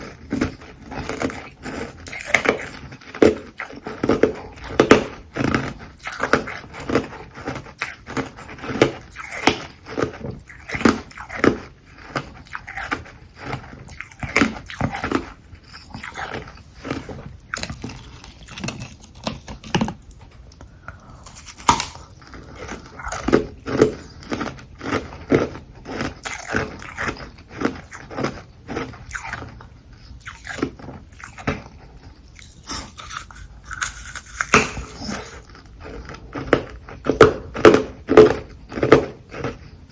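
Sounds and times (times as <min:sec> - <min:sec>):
chewing crunchy ice: 0:00.0 - 0:20.2, 0:21.0 - 0:39.9.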